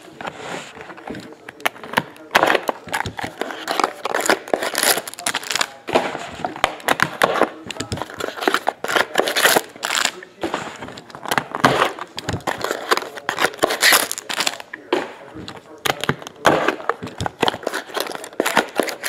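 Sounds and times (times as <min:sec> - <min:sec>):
cardboard and plastic rustling: 0:00.0 - 0:19.0.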